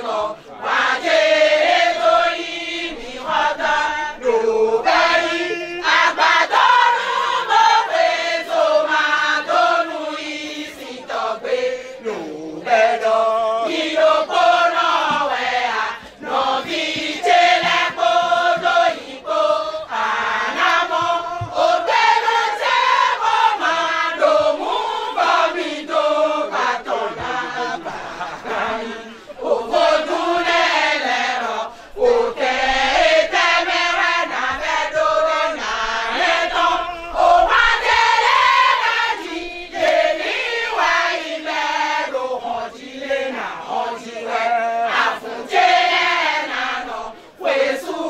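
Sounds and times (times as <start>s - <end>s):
women singing a chant: 0.0s - 48.0s.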